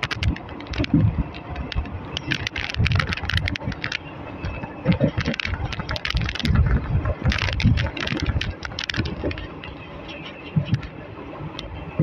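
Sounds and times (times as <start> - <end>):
low rumble: 0.0 - 12.0
train coach clattering on track: 0.0 - 12.0.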